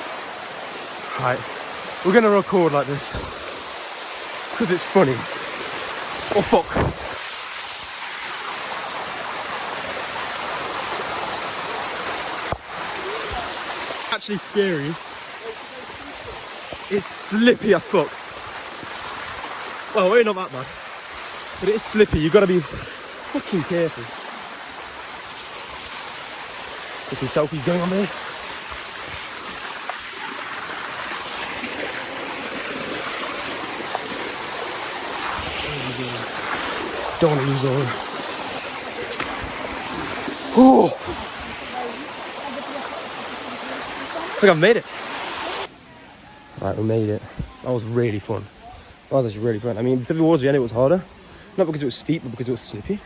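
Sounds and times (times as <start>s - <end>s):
waterfall rushing over rock: 0.0s - 45.7s.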